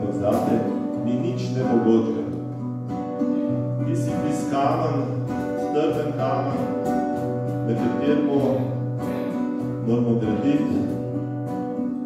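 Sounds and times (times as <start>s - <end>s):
acoustic guitar strumming chords: 0.0s - 12.0s
bass guitar notes: 0.0s - 12.0s.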